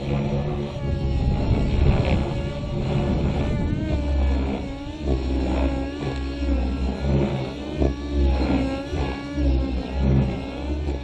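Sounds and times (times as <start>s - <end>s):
helicopter rotors: 0.0s - 11.0s
model helicopter engine: 0.0s - 11.0s.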